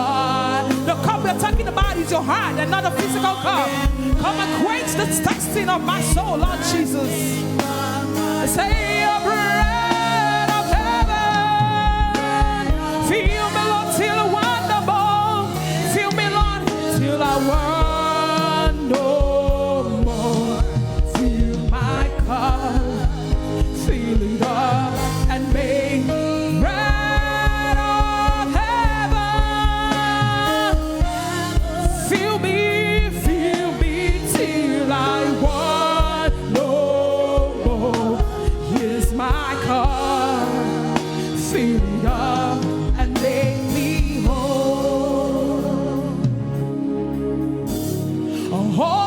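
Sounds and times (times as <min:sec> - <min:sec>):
band with steady beat: 0:00.0 - 0:48.6
person singing gospel: 0:00.0 - 0:49.0.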